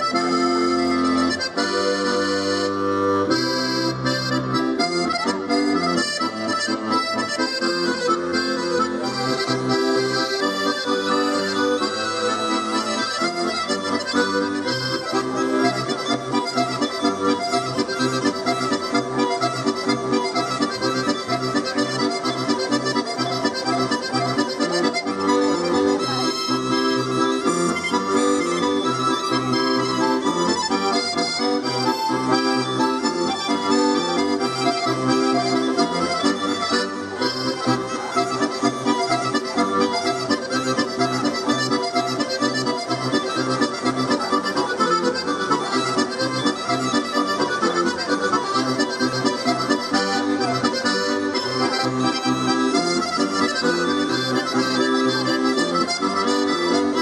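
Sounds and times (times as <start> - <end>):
accordion playing lively tune: 0.0 - 57.0.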